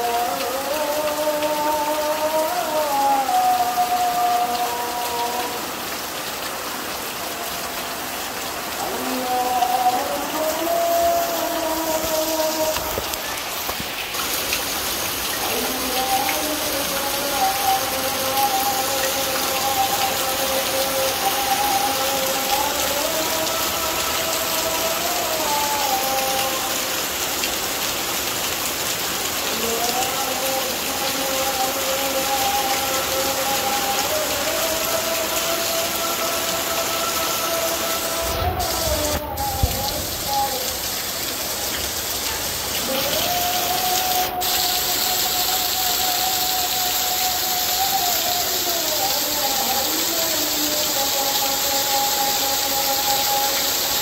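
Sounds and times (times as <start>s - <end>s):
distant call to prayer over loudspeaker: 0.0s - 5.8s, 8.7s - 13.5s, 15.4s - 27.1s, 29.5s - 41.4s, 42.2s - 54.0s
heavy rain pouring: 0.0s - 54.0s.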